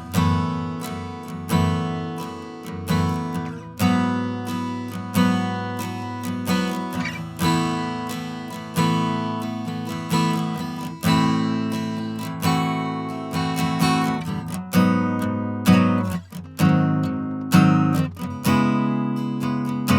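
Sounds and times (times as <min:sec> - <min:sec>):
acoustic guitar strumming chords: 0:00.0 - 0:19.9.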